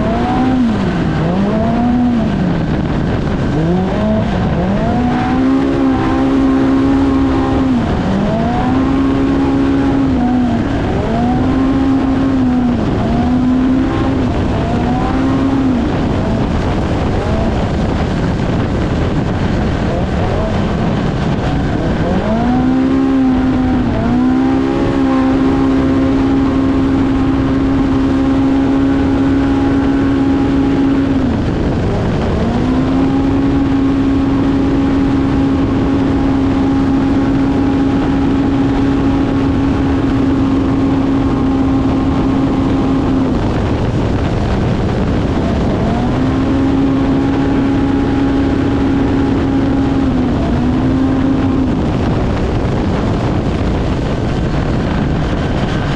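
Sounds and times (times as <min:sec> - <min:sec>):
utility vehicle engine at high revs: 0:00.0 - 0:55.9
wind and terrain noise: 0:00.0 - 0:55.9.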